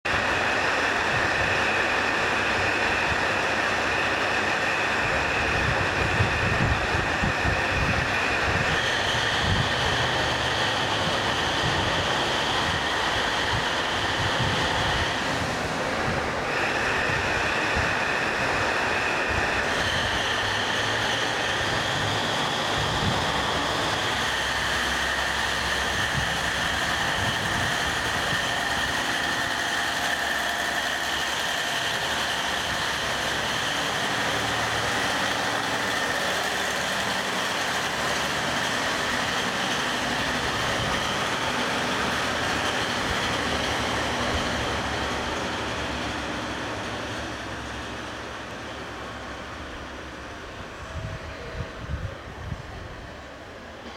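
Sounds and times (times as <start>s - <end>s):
diesel railcar engines: 0.0s - 53.9s
high-pitched whine: 0.1s - 53.9s.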